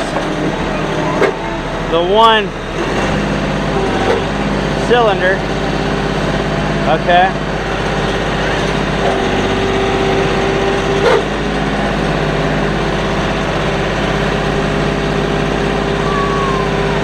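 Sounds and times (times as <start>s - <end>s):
hydraulic whine: 0.0s - 17.0s
tractor diesel engine running: 0.0s - 17.0s.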